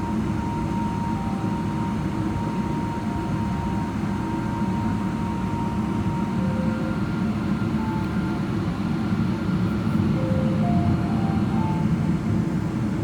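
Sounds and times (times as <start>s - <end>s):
low rumble inside aircraft cabin: 0.0s - 13.0s.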